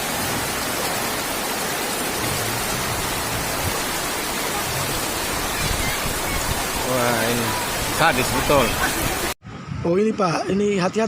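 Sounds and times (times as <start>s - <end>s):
rushing floodwater: 0.0s - 9.4s.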